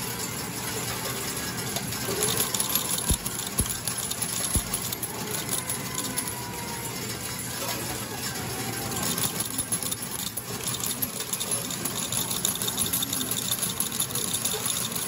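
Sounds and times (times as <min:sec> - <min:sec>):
arcade machinery hum: 0:00.0 - 0:15.0
metal medals clinking: 0:00.2 - 0:15.0.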